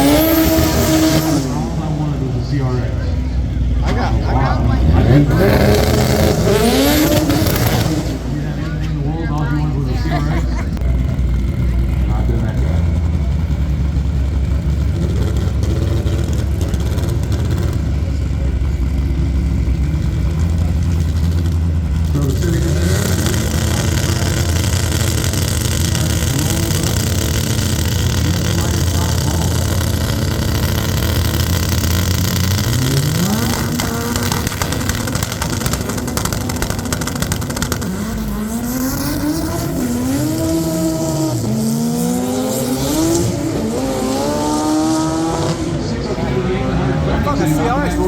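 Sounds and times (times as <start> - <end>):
drag car engines revving: 0.0 - 48.0.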